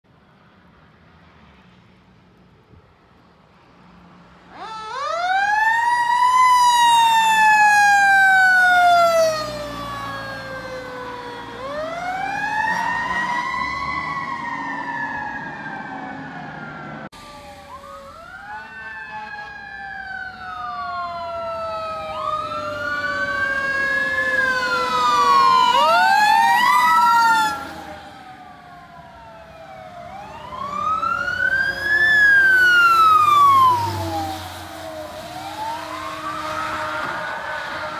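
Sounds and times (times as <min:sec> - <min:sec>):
emergency sirens wailing: 0:04.3 - 0:37.9.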